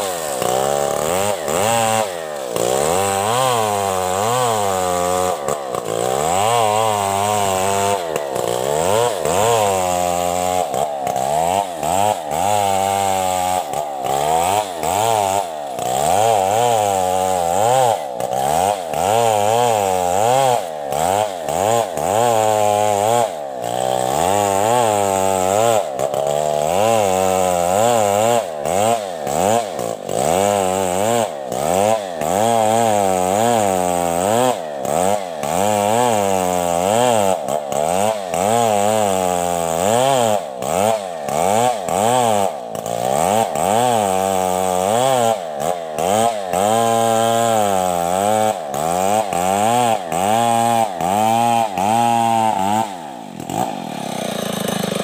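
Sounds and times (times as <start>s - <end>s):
chainsaw cutting timber: 0.0s - 55.0s.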